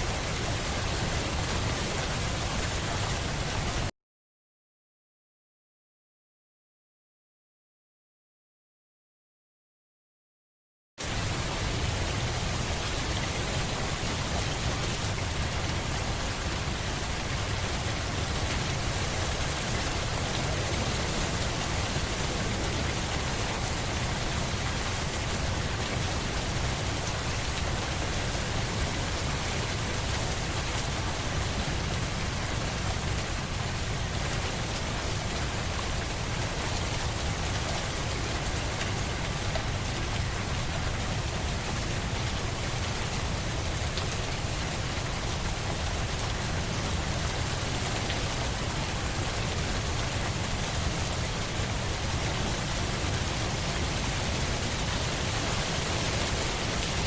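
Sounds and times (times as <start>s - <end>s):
steady rain falling: 0.0s - 3.9s, 11.0s - 57.0s.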